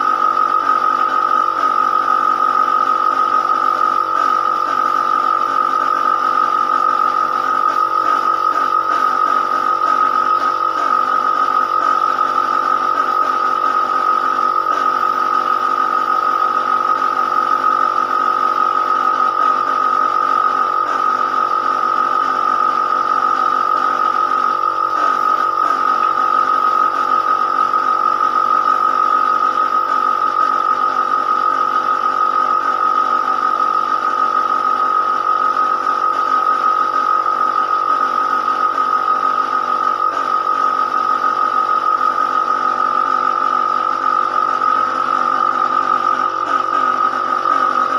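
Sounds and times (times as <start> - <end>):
power tool motor whining: 0.0 - 47.9.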